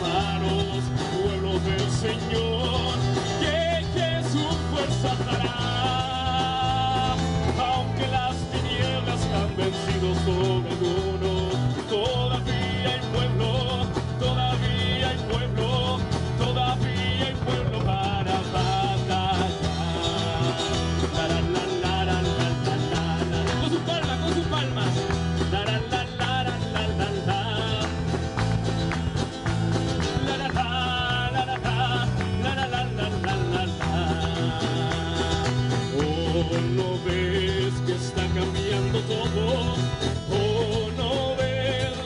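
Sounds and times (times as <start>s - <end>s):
person singing: 0.0s - 28.7s, 30.0s - 42.0s
drum kit: 0.0s - 42.0s
guitars: 0.0s - 42.0s.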